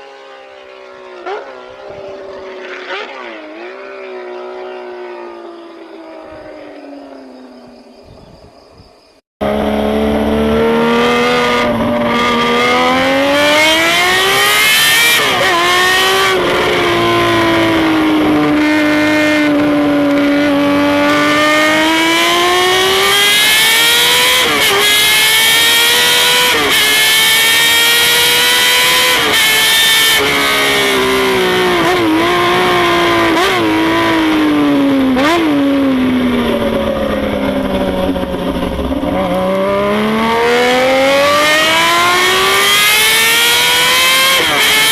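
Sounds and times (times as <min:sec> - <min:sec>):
motorcycle engine revving: 0:00.0 - 0:08.1, 0:09.4 - 0:44.9.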